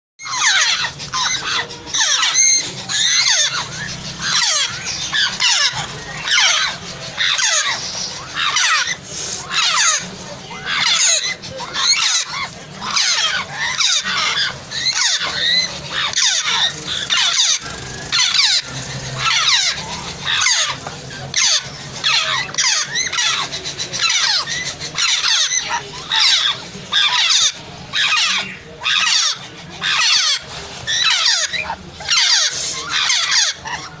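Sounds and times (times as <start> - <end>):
parrot chick squealing calls: 0.2 - 34.0.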